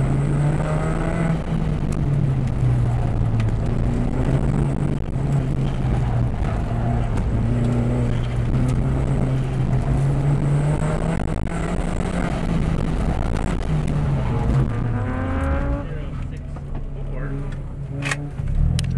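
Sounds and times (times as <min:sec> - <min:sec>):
car engine revving: 0:00.0 - 0:18.9
road noise: 0:00.0 - 0:18.9.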